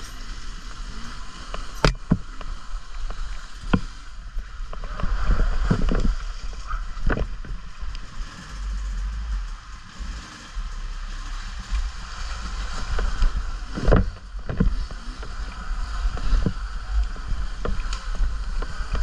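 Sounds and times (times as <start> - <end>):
bike knocks and rattles: 0.0 - 19.0
wind buffeting microphone: 0.0 - 19.0.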